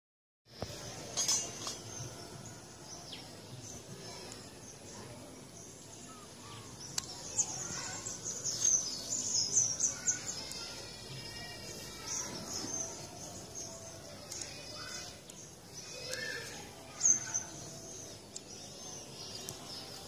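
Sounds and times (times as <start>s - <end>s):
small birds chirping: 0.5s - 20.0s
steady outdoor hiss: 0.5s - 20.0s.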